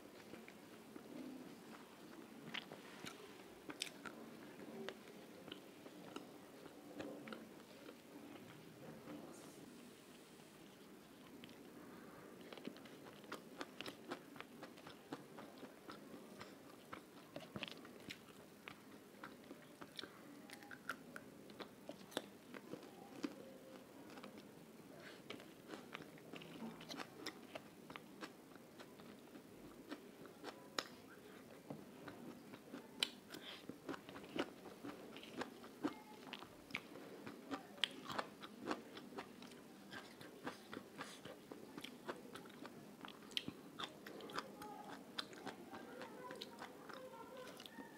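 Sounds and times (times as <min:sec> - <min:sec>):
chewing food: 0:00.1 - 0:09.2, 0:10.7 - 0:47.9.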